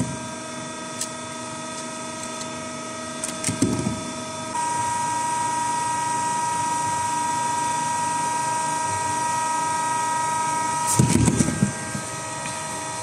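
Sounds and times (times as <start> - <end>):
welding machine hum: 0.0 - 13.0.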